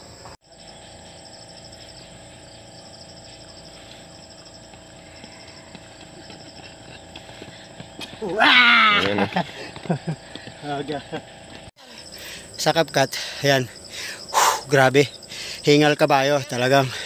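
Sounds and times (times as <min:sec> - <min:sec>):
insects chirping in grass: 0:00.0 - 0:17.0.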